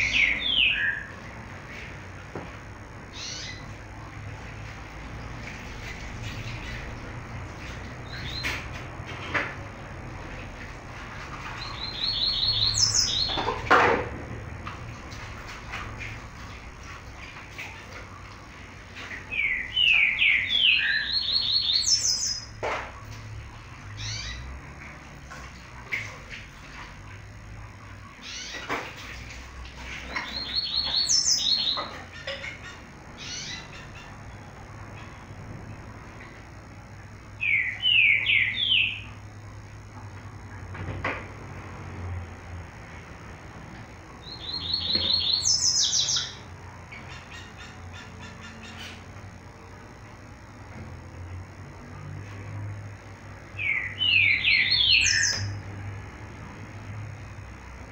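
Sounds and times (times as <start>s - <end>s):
birds chirping: 0.0s - 57.9s
steady low hum: 0.0s - 57.9s.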